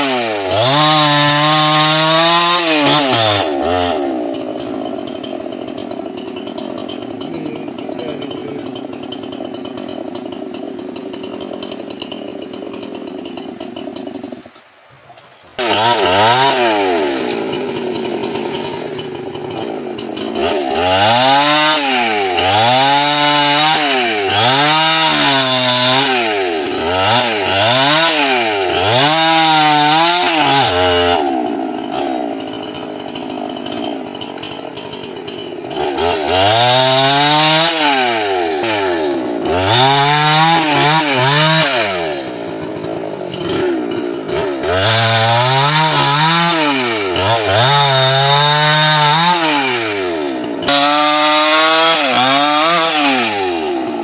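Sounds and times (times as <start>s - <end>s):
chainsaw cutting tree limbs: 0.0s - 54.0s.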